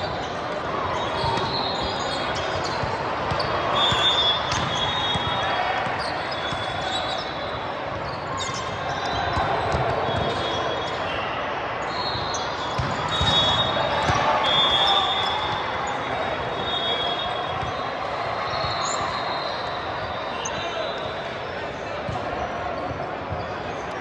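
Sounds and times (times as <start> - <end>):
crowd of voices chattering: 0.0 - 24.0.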